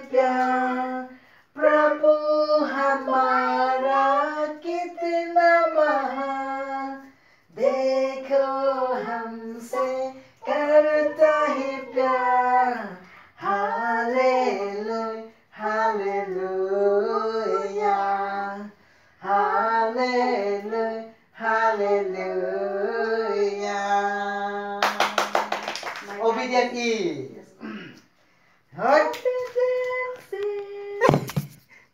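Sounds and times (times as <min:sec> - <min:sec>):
high voice singing unaccompanied: 0:00.0 - 0:25.1, 0:28.8 - 0:31.2.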